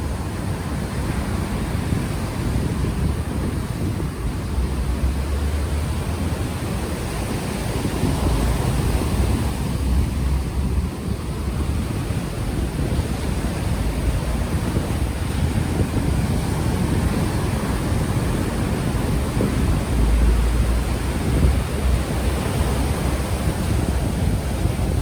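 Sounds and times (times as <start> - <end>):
ocean waves on shore: 0.0 - 25.0
wind buffeting microphone: 0.0 - 25.0.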